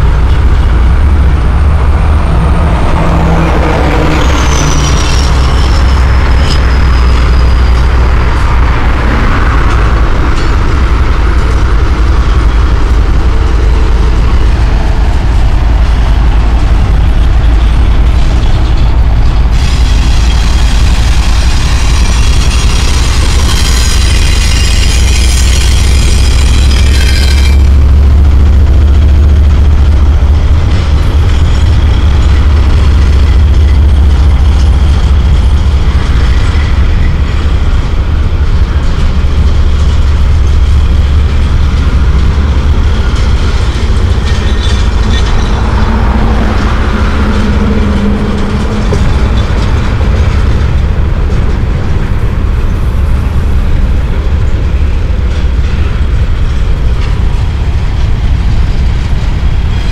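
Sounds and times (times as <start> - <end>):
freight train rumbling: 0.0 - 59.9
road vehicle hum: 0.0 - 59.9.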